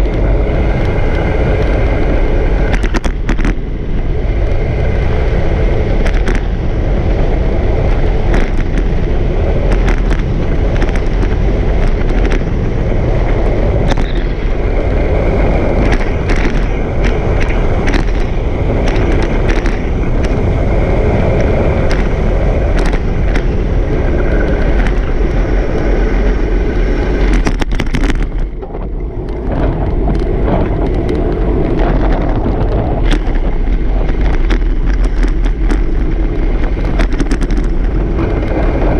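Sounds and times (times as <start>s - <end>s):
wheels clacking over cracks: 0.0s - 38.9s
wheels rumbling over asphalt: 0.0s - 38.9s
wind buffeting microphone: 0.0s - 38.9s.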